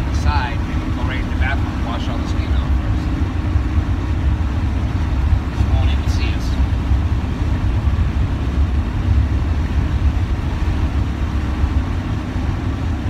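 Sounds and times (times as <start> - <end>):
engine and road noise rumble: 0.0 - 13.0.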